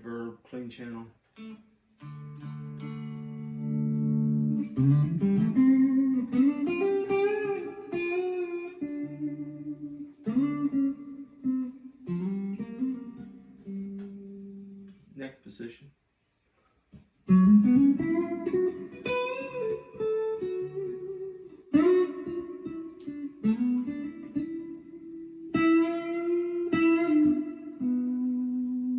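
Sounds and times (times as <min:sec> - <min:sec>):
clean electric guitar: 0:01.3 - 0:15.1, 0:16.9 - 0:28.9.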